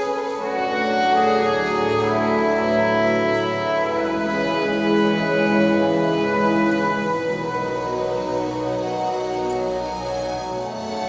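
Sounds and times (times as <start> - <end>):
slow instrumental music: 0.0 - 11.0.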